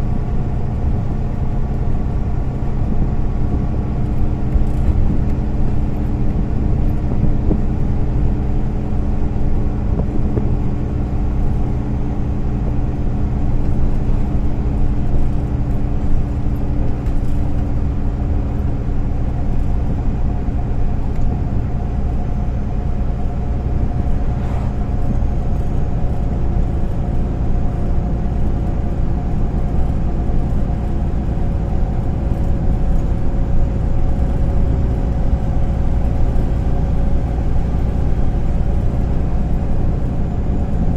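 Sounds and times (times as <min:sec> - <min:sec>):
bus diesel engine drone: 0:00.0 - 0:40.9
road and tyre rumble: 0:00.0 - 0:40.9.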